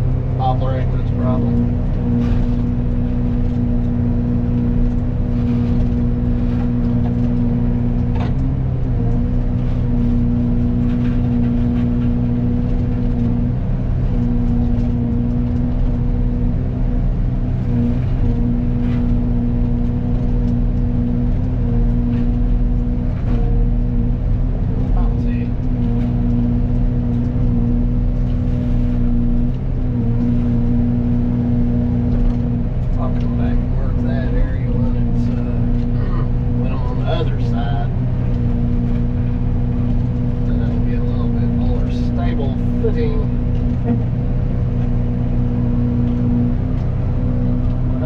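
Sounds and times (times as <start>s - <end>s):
engine drone: 0.0s - 48.0s
forestry mulcher running: 0.0s - 48.0s.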